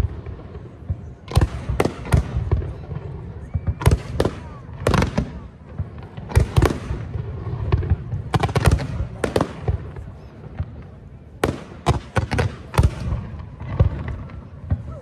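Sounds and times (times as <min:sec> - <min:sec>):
fireworks bursting with sharp bangs: 0:00.0 - 0:15.0.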